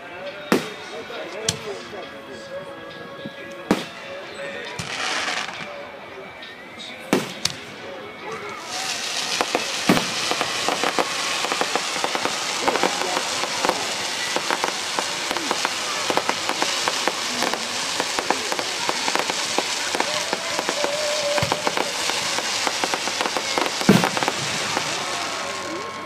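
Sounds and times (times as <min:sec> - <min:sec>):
fireworks crackling: 0:00.3 - 0:02.0, 0:03.5 - 0:06.4, 0:07.1 - 0:26.0.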